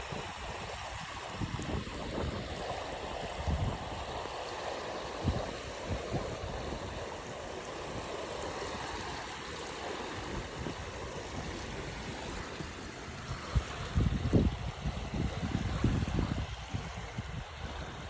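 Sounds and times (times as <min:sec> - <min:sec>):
small waves washing on beach: 0:00.0 - 0:18.0.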